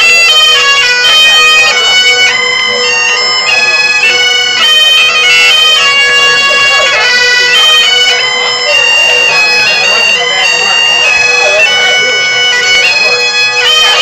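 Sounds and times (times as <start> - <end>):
bagpipes playing a tune: 0.0 - 14.0.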